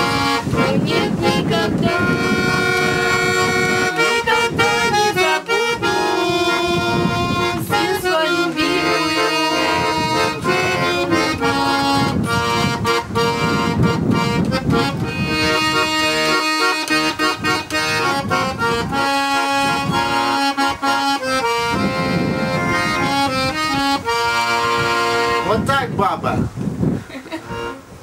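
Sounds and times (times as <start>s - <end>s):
accordion playing: 0.0s - 25.9s, 27.4s - 28.0s.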